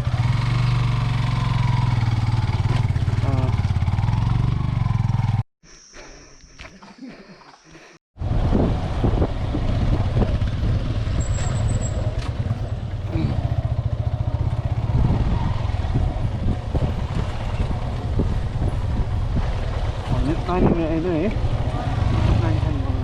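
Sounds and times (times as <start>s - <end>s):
motorcycle engine rumbling: 0.0s - 5.4s, 6.9s - 23.0s.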